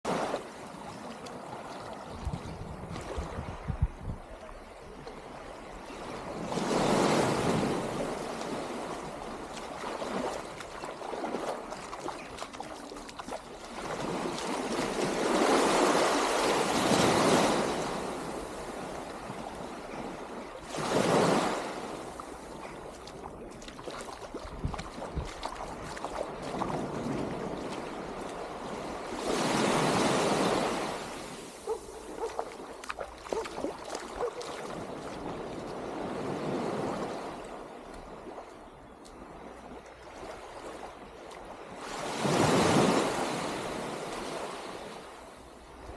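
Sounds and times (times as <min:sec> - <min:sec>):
small waves breaking on shore: 0:00.1 - 0:45.9.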